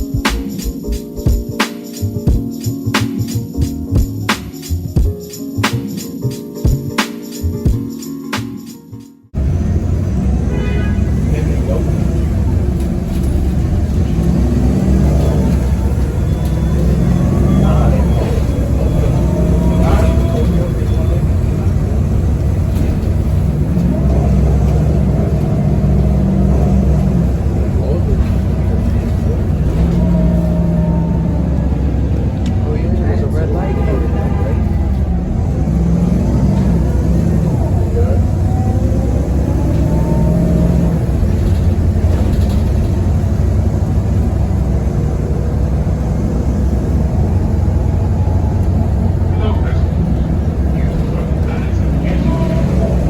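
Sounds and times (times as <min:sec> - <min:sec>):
bus engine rumble: 0:00.0 - 0:07.8, 0:09.3 - 0:53.0
road noise: 0:09.3 - 0:53.0.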